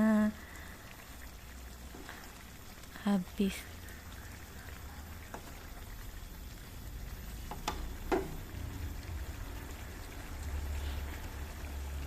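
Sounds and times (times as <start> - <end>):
sauce bubbling and sizzling in a pan: 0.0 - 12.0.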